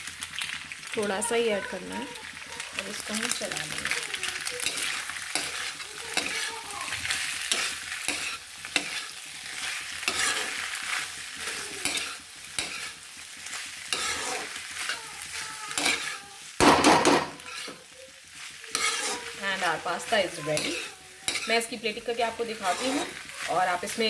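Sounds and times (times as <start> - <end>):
pasta sizzling in a wok: 0.0 - 24.0
metal spatula scraping pan: 4.6 - 24.0.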